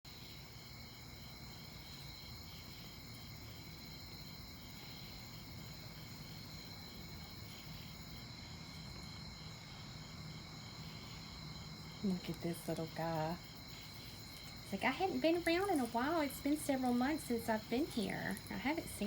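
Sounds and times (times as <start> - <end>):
crickets trilling: 0.1 - 19.0
pulsing insect chirp: 0.1 - 19.0.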